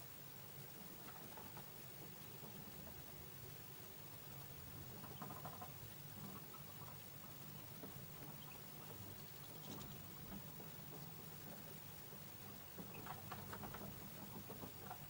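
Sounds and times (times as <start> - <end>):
steady low hum: 0.0 - 15.0
birds pecking at seeds: 0.6 - 15.0.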